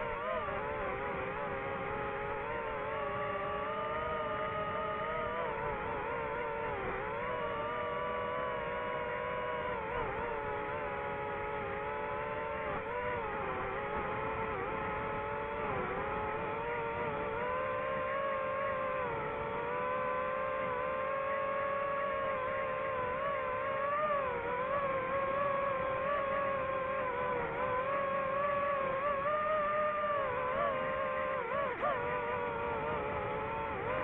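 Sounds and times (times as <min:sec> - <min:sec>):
drone propellers whining: 0:00.0 - 0:34.0.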